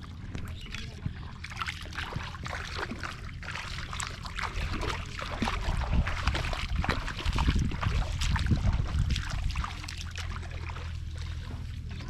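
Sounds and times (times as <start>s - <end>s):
low rumble: 0.0s - 12.0s
water splashing and trickling: 0.0s - 12.0s.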